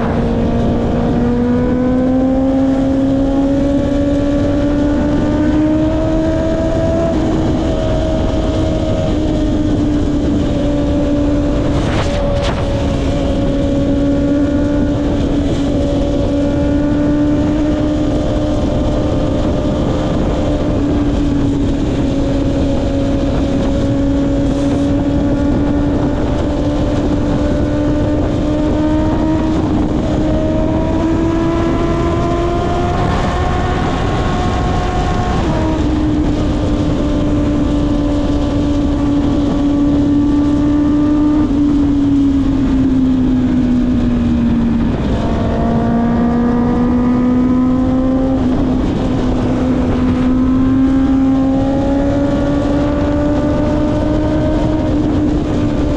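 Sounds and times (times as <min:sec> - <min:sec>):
motorcycle engine cruising: 0:00.0 - 0:55.9
wind and road noise: 0:00.0 - 0:55.9.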